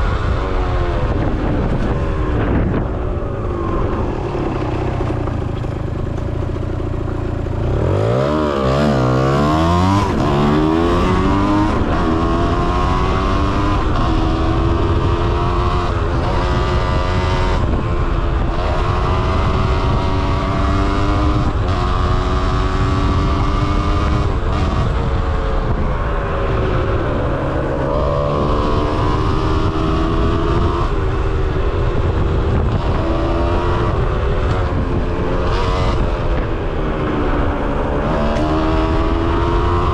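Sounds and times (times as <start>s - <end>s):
two-stroke motorcycle engine revving: 0.0s - 39.9s
wind rumble on microphone: 0.0s - 39.9s.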